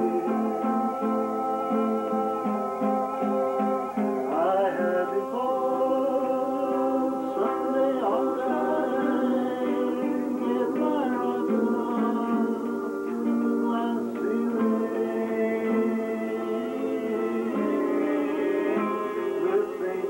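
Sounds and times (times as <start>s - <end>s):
person singing: 0.0s - 20.0s
plucked string instrument: 0.0s - 20.0s.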